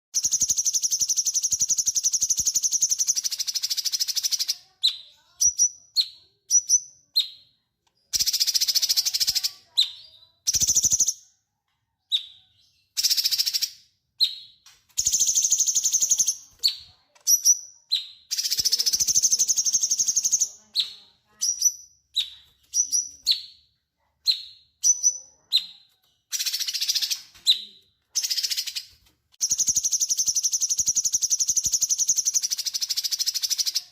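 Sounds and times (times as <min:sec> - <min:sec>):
bulbul singing: 0:00.2 - 0:11.3, 0:12.1 - 0:33.9.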